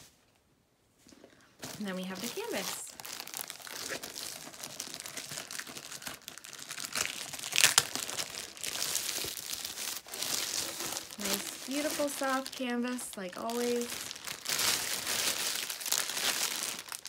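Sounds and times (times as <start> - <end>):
plastic wrapping crinkling: 1.6 - 17.0.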